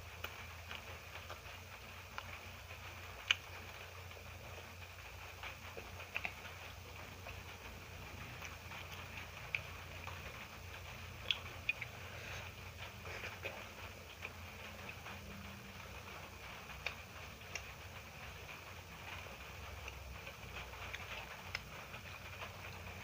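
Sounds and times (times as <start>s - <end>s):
faint low hum: 0.0s - 23.0s
person chewing: 3.0s - 4.7s, 5.3s - 23.0s.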